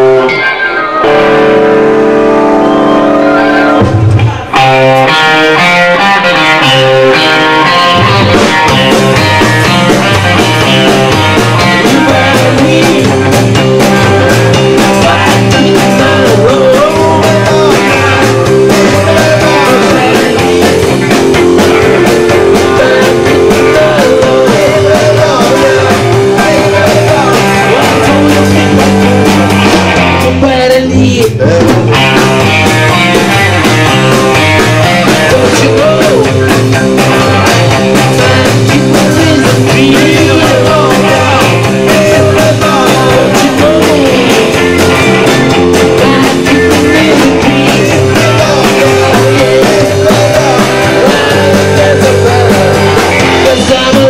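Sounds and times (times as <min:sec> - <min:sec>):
drum kit: 0:00.0 - 0:54.0
electric guitars: 0:00.0 - 0:54.0
person singing: 0:00.0 - 0:54.0.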